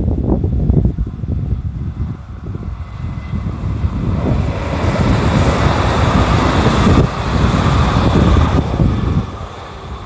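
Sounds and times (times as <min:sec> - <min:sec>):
electric train passing: 0:00.0 - 0:10.0
wind buffeting microphone: 0:00.0 - 0:10.0.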